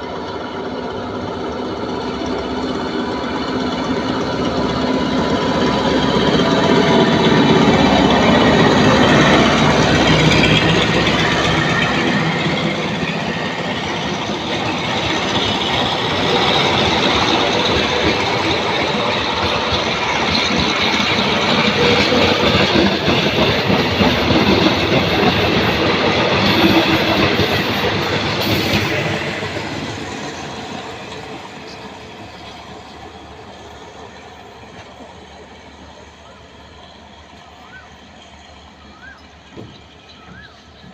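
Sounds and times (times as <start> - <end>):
locomotive engine: 0.0 - 40.9
train carriages clattering: 1.1 - 36.4, 37.3 - 40.9.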